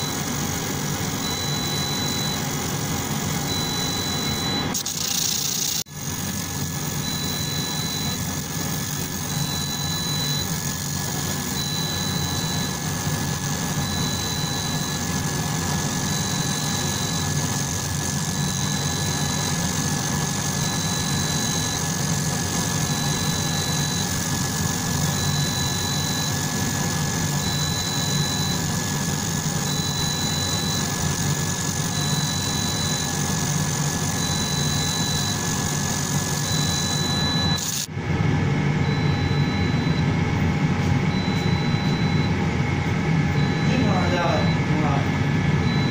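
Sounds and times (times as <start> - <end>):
laser machine hum and hiss: 0.0 - 45.9.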